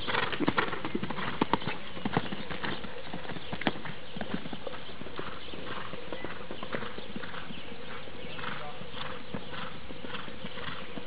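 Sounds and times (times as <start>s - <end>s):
hoofbeats on sand: 0.0s - 11.0s.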